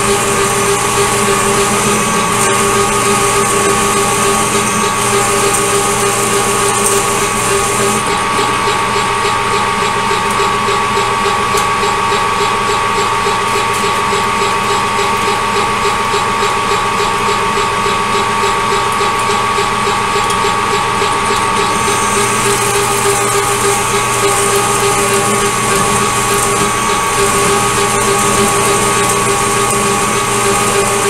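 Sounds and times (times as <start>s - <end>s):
drill bit cutting metal: 0.0s - 31.0s
metal lathe running with whine: 0.0s - 31.0s.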